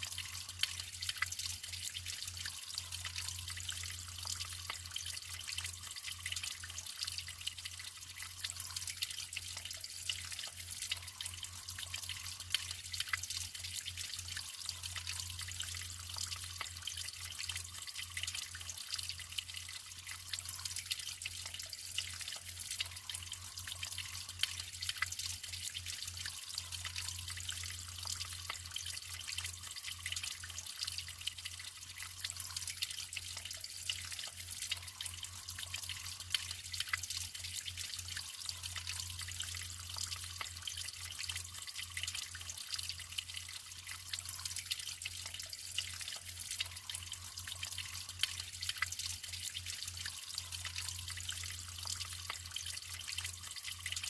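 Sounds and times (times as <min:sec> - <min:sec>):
water dripping: 0:00.0 - 0:54.0
water trickling and splashing: 0:00.0 - 0:54.0.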